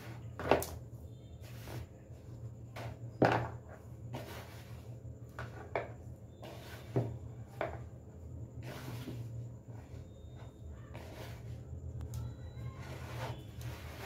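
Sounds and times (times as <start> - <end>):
hand mixing dough in a bowl: 1.4 - 14.0.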